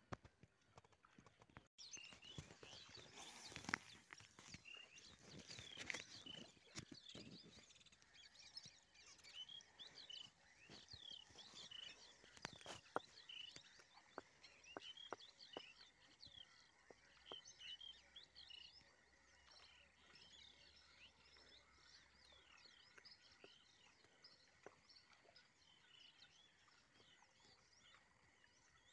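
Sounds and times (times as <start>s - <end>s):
birds chirping: 1.8s - 28.9s.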